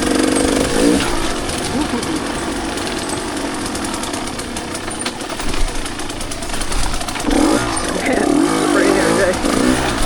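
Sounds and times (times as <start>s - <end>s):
two-stroke dirt bike engine: 0.0s - 10.0s.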